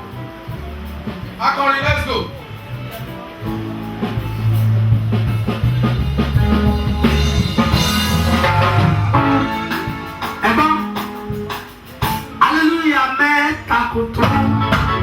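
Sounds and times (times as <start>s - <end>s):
low bass notes: 0.0s - 13.0s, 13.6s - 15.0s
drum kit upbeat rhythm: 0.0s - 15.0s.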